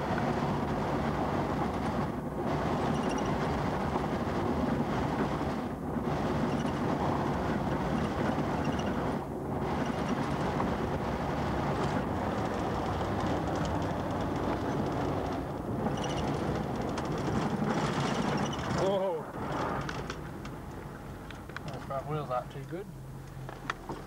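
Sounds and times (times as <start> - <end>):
car cabin road noise: 0.0 - 24.0.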